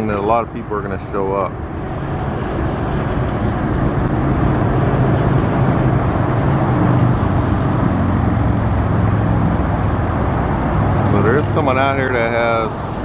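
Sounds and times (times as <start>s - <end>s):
low engine hum: 0.0s - 13.0s
passing vehicles rushing: 0.0s - 13.0s.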